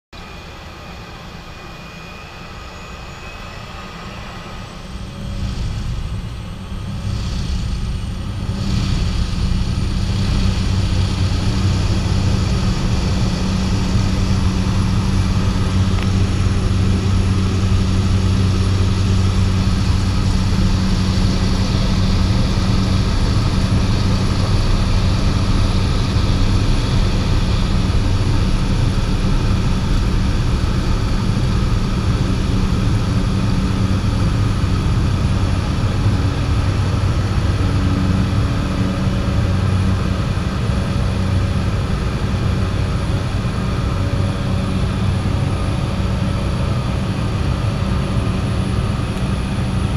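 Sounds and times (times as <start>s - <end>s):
low propeller drone: 0.1s - 49.9s
thin high engine whine: 0.2s - 49.9s.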